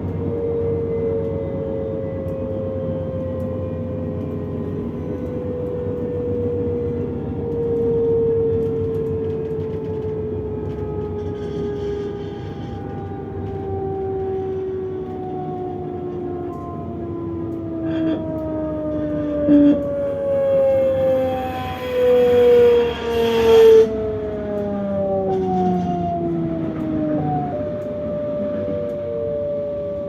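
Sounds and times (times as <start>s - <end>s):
electric train motor whine: 0.0s - 30.0s
train wheels rumbling on track: 0.0s - 30.0s.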